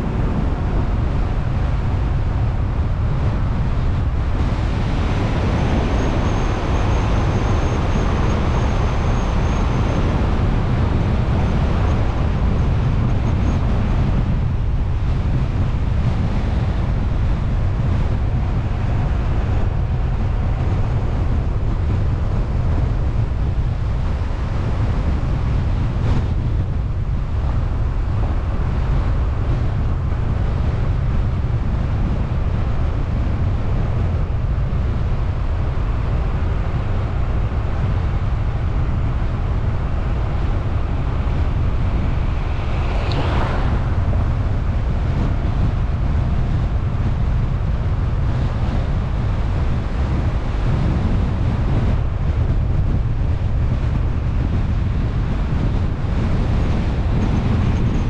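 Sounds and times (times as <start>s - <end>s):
car engine rumble: 0.0s - 58.0s
road noise: 0.0s - 58.0s
wind on microphone: 0.0s - 58.0s.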